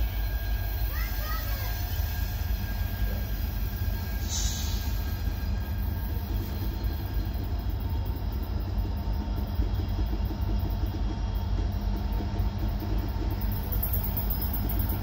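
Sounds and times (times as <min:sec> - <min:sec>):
train rolling by: 0:00.0 - 0:15.0.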